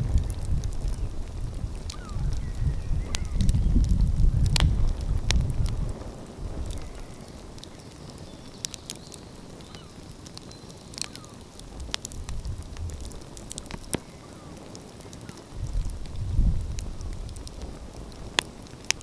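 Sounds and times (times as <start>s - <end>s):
wind rumble on microphone: 0.0s - 8.3s, 11.6s - 19.0s
wood fire crackling: 0.0s - 19.0s.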